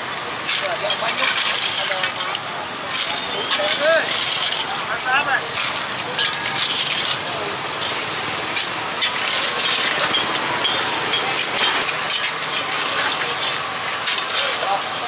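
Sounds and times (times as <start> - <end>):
steady background noise: 0.0 - 15.0
clams clattering in metal ladle: 0.5 - 15.0.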